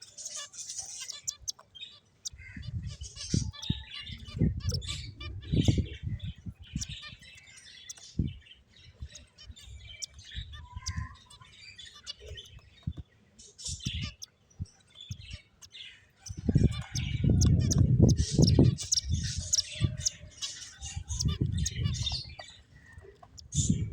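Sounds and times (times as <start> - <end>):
finches chirping: 0.0 - 23.9.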